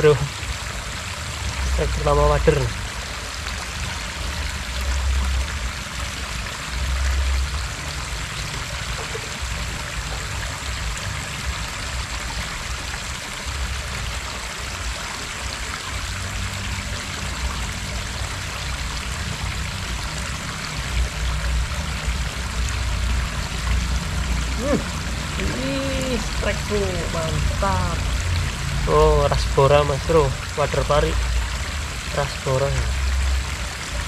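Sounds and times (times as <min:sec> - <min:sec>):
water rushing over rocks: 0:00.0 - 0:34.0.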